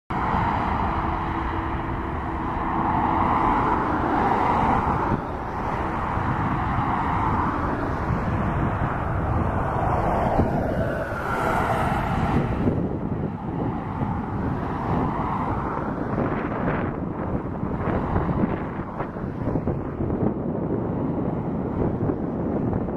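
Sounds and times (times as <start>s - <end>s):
engine rushing rumble: 0.1s - 22.9s.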